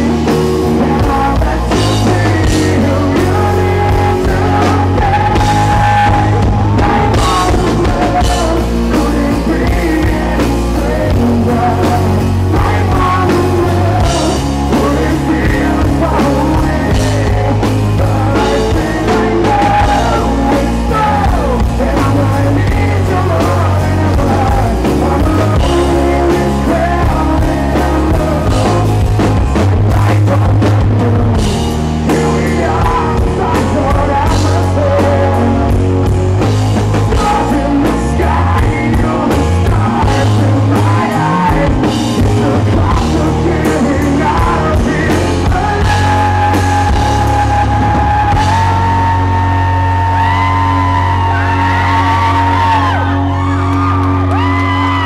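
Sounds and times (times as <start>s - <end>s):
live rock band playing: 0.0s - 55.0s
man singing: 0.0s - 55.0s.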